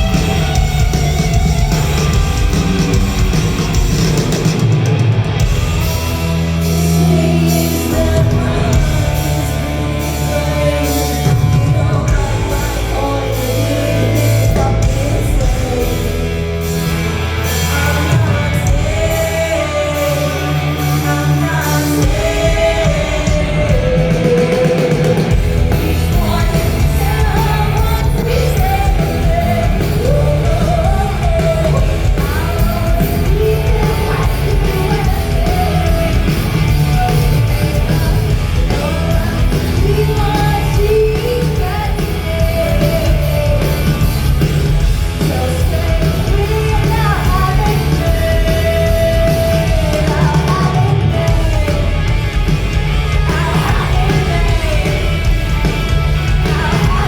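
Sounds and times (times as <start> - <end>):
live rock band playing: 0.0 - 57.0
woman singing: 6.6 - 16.4, 17.4 - 44.4, 45.2 - 57.0.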